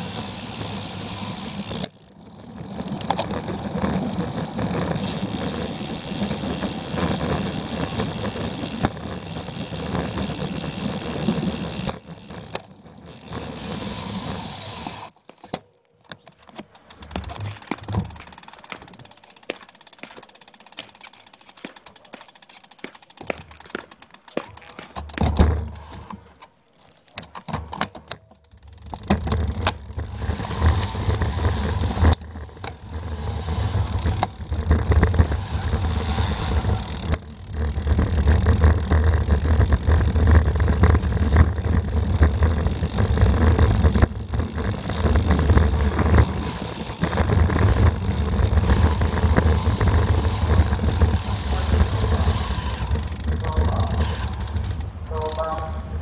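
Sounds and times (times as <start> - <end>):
tyre noise on rough concrete: 0.0 - 55.1
sharp clicks and rattles: 0.0 - 56.0.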